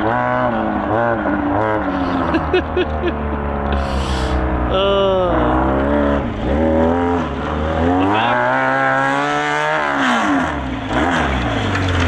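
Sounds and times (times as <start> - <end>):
small tractor engine revving: 0.0 - 12.0.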